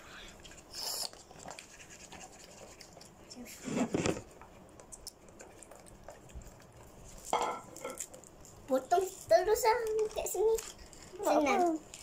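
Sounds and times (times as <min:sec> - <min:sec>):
clicks and rustles of eating: 0:00.4 - 0:12.0.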